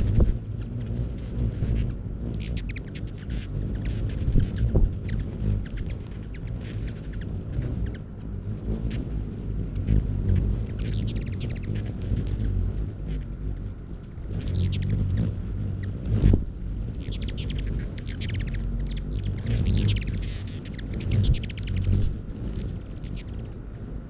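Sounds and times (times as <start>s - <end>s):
hummingbird chip notes and trills: 1.1s - 23.6s.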